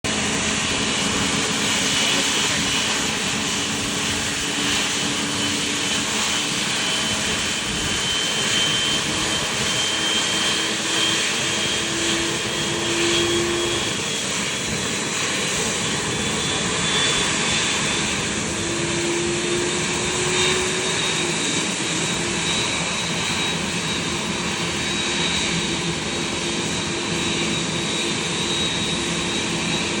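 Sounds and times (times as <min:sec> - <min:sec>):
jet engine spooling up whine: 0:00.0 - 0:30.0.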